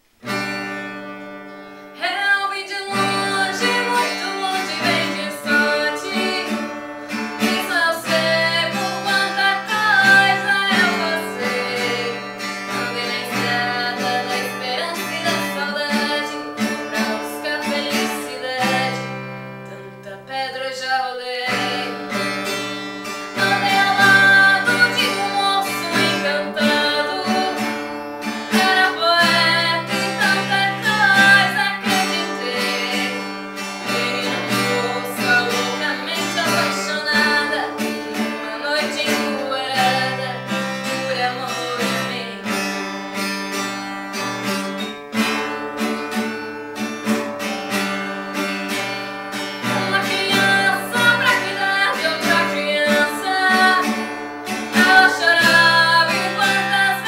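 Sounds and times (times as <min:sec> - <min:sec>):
acoustic guitar: 0:00.0 - 0:57.0
woman singing: 0:01.9 - 0:43.0, 0:47.7 - 0:57.0.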